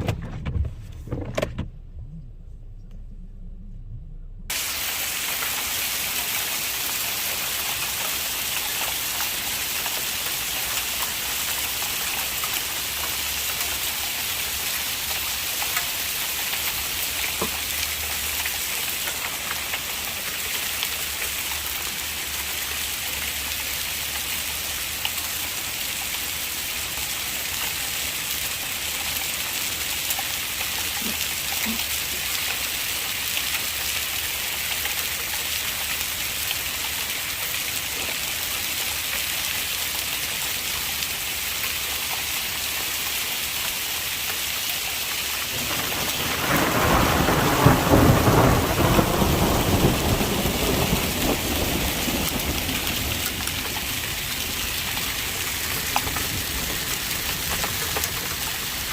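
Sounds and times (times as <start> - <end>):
heavy rain pouring: 0.0 - 58.9
raindrops ticking: 0.3 - 58.9.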